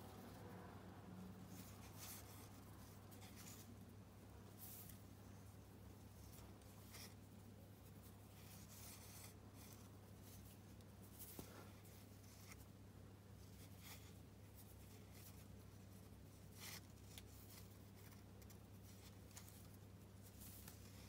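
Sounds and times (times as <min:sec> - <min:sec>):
low steady hum: 0:00.0 - 0:21.0
cord rustling through fingers: 0:01.4 - 0:21.0.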